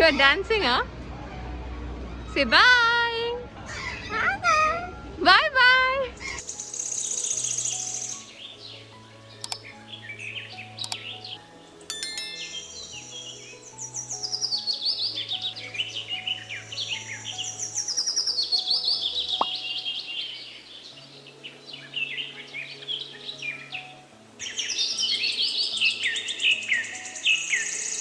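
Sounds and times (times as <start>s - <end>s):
soft background music: 0.0s - 28.0s
small birds chirping: 2.1s - 28.0s.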